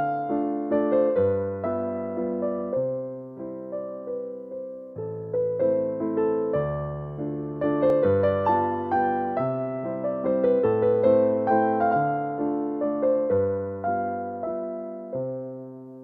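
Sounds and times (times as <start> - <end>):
gentle electric piano melody: 0.0 - 16.0.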